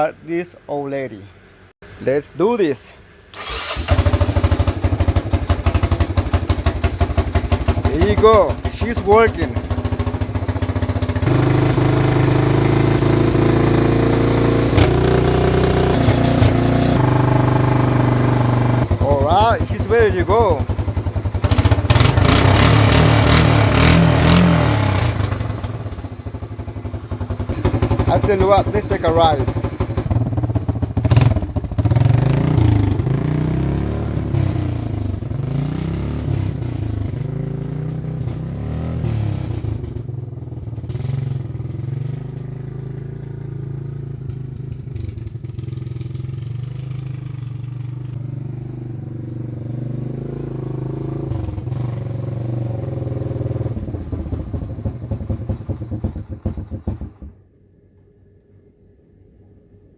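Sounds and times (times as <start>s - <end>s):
atv engine revving: 3.3s - 57.4s.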